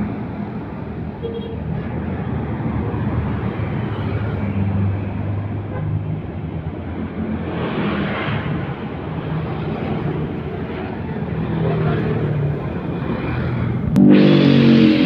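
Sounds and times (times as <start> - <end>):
trucks passing on road: 0.0 - 15.0.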